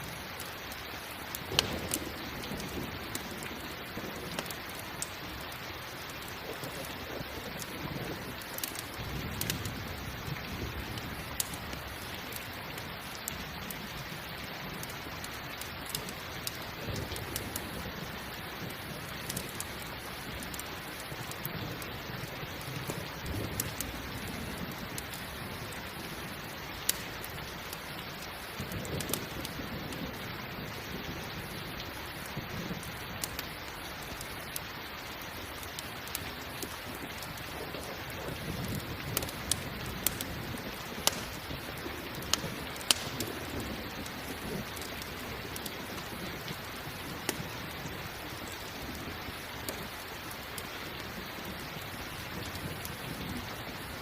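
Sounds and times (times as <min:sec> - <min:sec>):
campfire popping and crackling: 0:00.0 - 0:54.0
steady rain hissing: 0:00.0 - 0:54.0.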